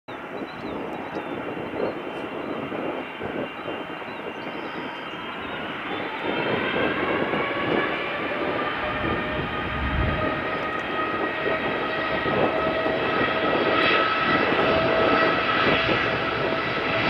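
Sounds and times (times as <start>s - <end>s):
jet engines whining: 0.1s - 17.0s.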